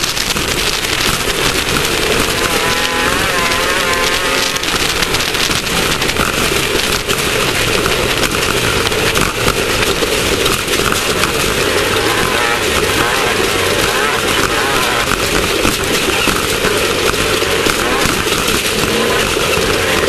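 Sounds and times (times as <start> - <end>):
race car engine running hard: 0.0 - 20.0
rattle and rumble of off-road driving: 0.0 - 20.0.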